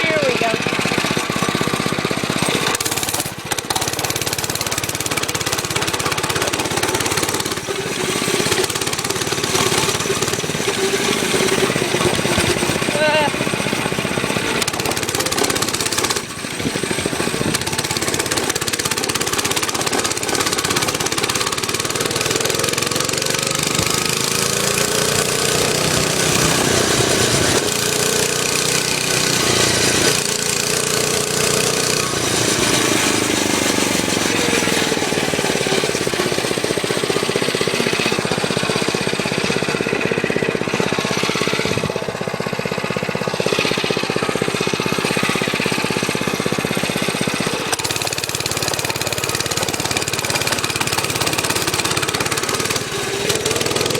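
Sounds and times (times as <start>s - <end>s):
mini bike engine revving: 0.0s - 53.9s.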